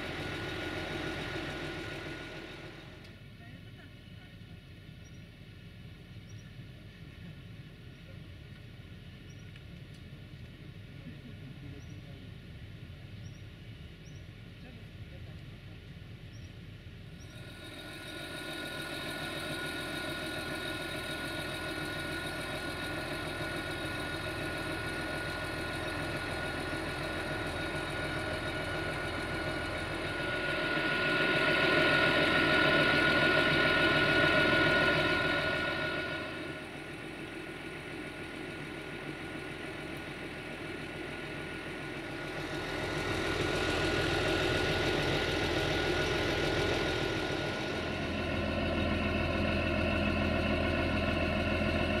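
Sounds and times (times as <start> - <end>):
railcar engines whining: 0.0 - 52.0.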